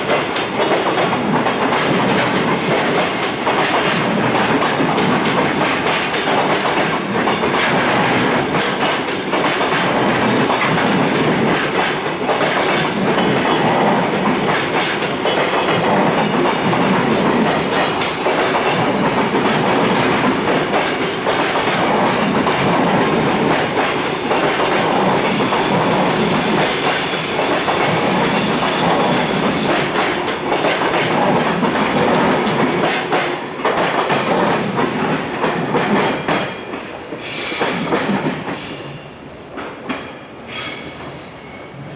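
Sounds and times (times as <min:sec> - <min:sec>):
clickety-clack over rail joints: 0:00.0 - 0:38.8, 0:39.5 - 0:40.3
steel wheels rumbling on rail: 0:00.0 - 0:41.9.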